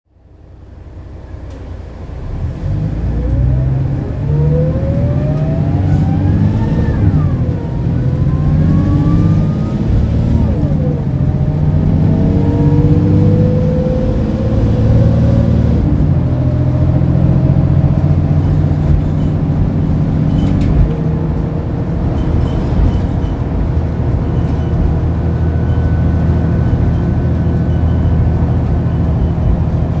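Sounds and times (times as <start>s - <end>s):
bus diesel engine accelerating: 0.1s - 30.0s.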